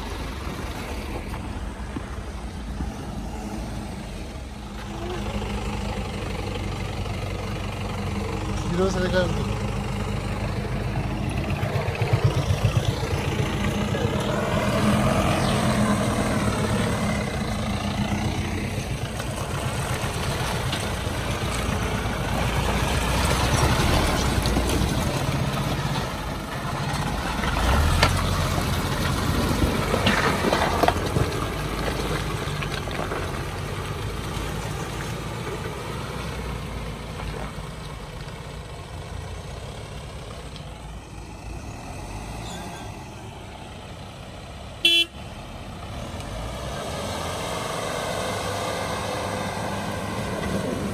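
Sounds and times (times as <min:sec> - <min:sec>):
truck diesel engine running: 0:00.0 - 0:50.9.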